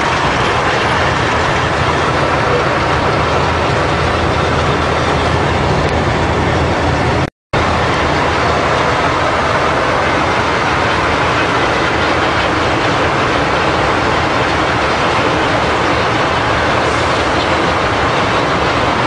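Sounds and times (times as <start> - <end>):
tank engines and tracks: 0.0 - 19.0.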